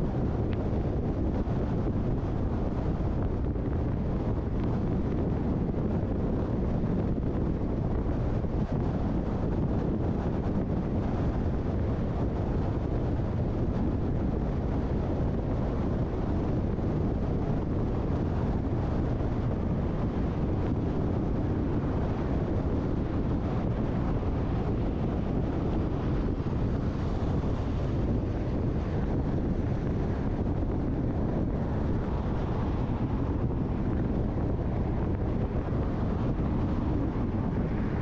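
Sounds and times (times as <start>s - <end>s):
car road and wind noise: 0.0s - 38.0s.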